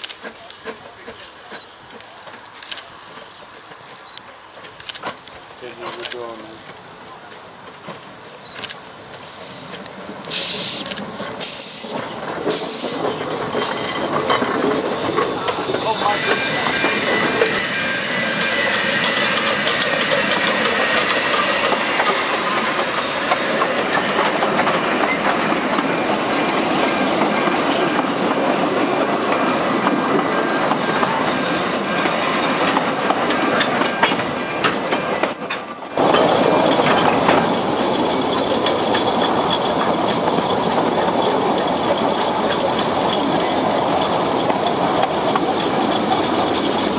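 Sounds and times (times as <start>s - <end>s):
steam hissing from locomotive: 0.0s - 46.9s
train wheels clicking over rail joints: 0.0s - 46.9s.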